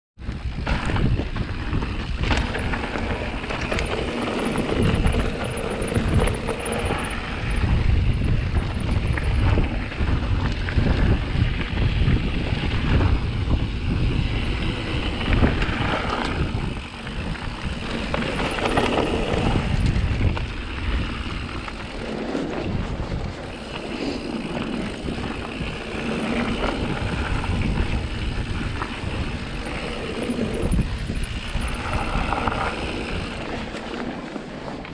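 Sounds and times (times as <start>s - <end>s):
bike clicks and rattles: 0.2s - 34.9s
wind buffeting microphone: 0.2s - 34.9s
tyres rumbling on dirt: 0.3s - 34.9s.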